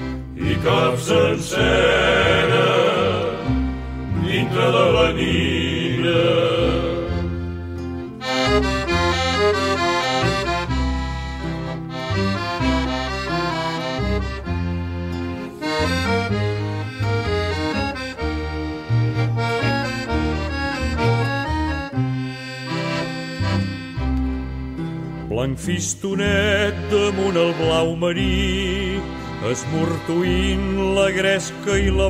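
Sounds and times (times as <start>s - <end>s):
accordion melody: 0.0s - 32.0s
steady bass notes: 0.0s - 32.0s.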